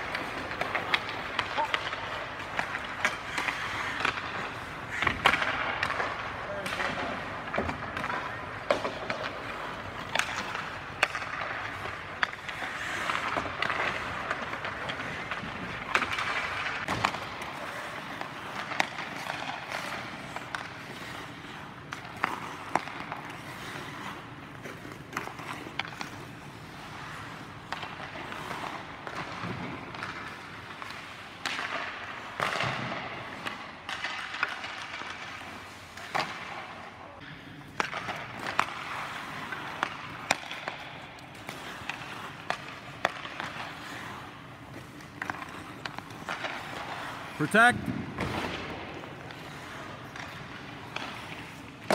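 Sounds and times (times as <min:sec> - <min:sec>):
skates scraping on ice: 0:00.0 - 0:51.9
sticks hitting pucks: 0:00.0 - 0:51.9.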